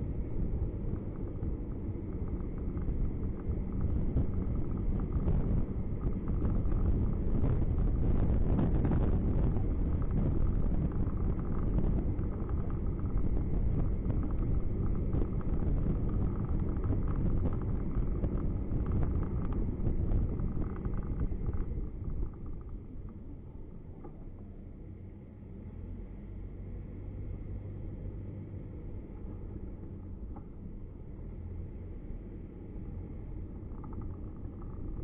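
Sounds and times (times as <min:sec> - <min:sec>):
car engine and tyre noise: 0:00.0 - 0:35.0.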